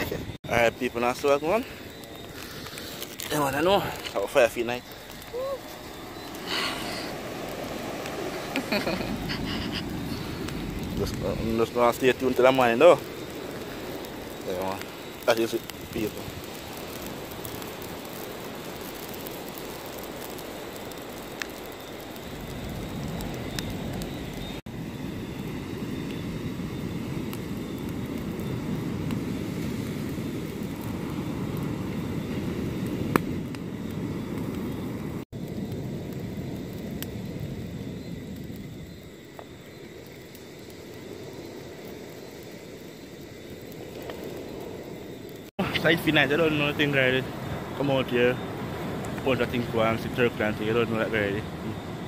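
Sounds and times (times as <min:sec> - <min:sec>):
campfire burning rush: 0:00.0 - 0:52.0
fire crackling pops: 0:00.0 - 0:52.0.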